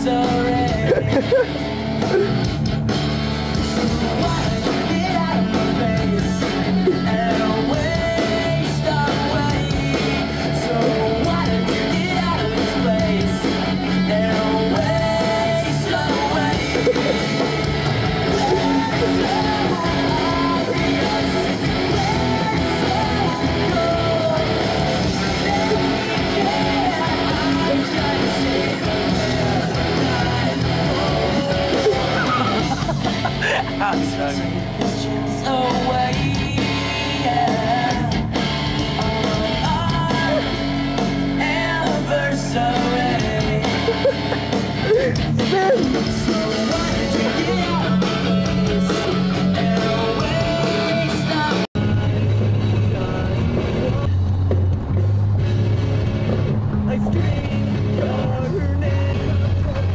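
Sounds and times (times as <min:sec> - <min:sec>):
rock music with shouting vocal: 0:00.0 - 0:59.9.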